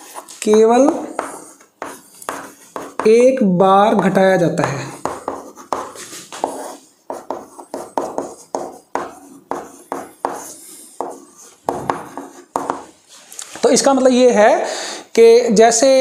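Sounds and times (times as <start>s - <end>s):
chalk tapping and scratching on chalkboard: 0.0s - 3.4s, 4.0s - 13.9s.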